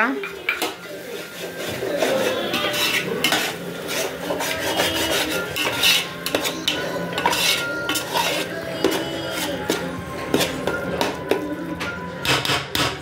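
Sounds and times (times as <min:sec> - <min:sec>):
metal spoon scraping a pot: 0:00.2 - 0:11.5.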